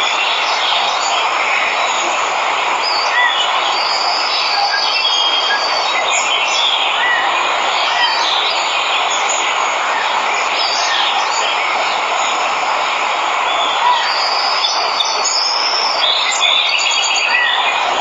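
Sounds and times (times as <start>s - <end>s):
birds chirping: 0.0s - 18.0s
waterfall rushing: 0.0s - 18.0s.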